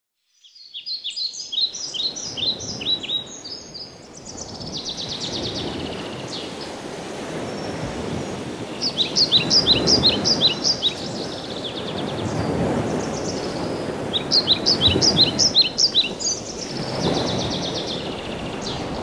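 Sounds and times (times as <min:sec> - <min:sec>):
birds chirping: 0:00.6 - 0:19.0.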